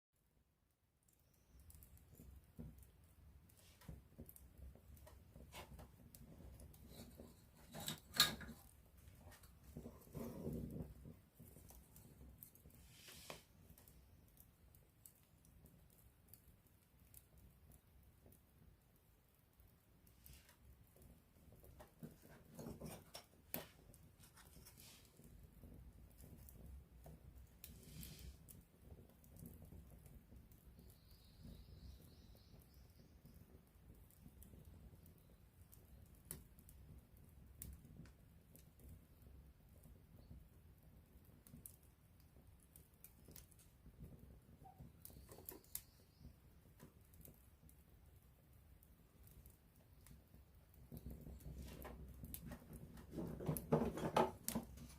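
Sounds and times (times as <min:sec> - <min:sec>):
low sound of flames: 0:00.9 - 0:54.9
campfire crackling and popping: 0:01.0 - 0:54.9.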